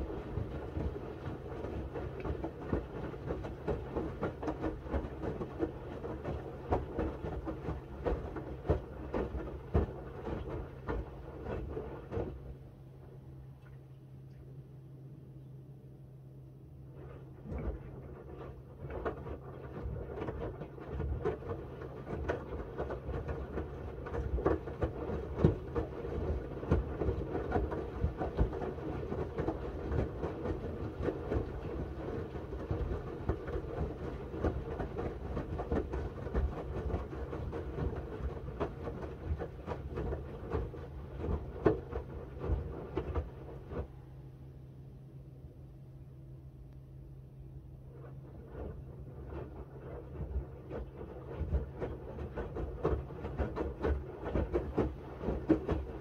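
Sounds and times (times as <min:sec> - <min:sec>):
wet laundry tumbling and sloshing: 0:00.0 - 0:14.1, 0:16.8 - 0:44.1, 0:47.8 - 0:56.0.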